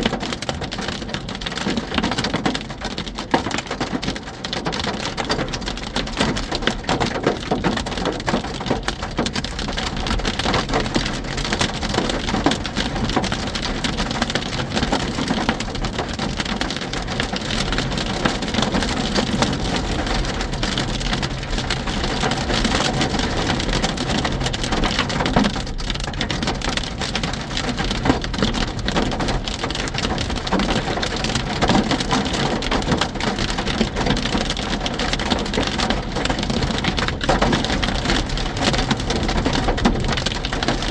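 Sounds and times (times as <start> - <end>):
hail clattering on car: 0.0 - 40.9
heavy rain: 0.1 - 40.9.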